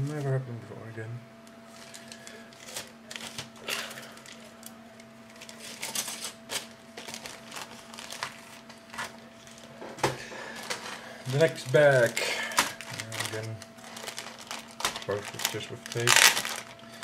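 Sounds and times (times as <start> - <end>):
plastic bags crinkling: 1.6 - 4.6, 5.3 - 9.8, 10.4 - 17.0.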